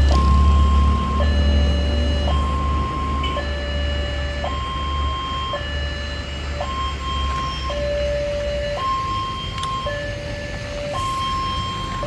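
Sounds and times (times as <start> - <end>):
two-tone crossing warning siren: 0.0 - 12.0.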